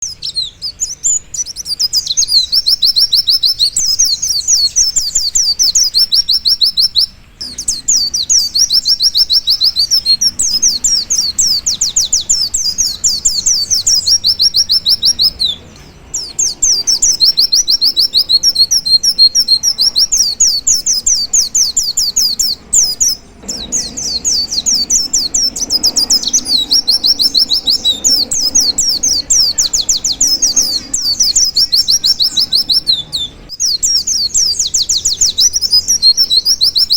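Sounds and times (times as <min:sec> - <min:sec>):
bird rapid high chirping: 0:00.0 - 0:36.9.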